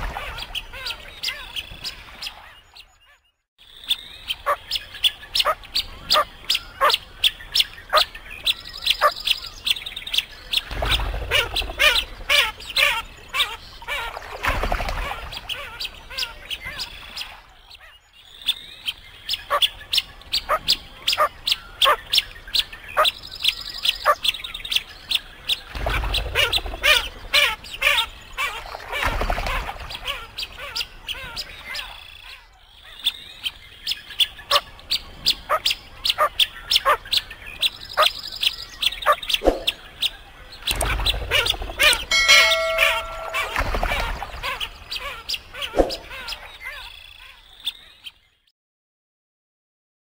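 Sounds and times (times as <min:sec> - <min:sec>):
birds chirping: 0:00.0 - 0:48.4.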